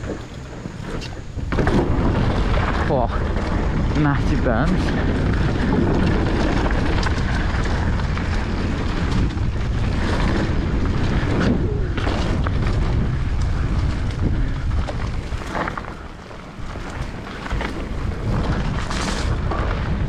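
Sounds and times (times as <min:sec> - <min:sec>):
bike rattling: 0:00.0 - 0:20.0
bike tyres rolling over dirt: 0:00.0 - 0:20.0
wind buffeting microphone: 0:00.0 - 0:20.0.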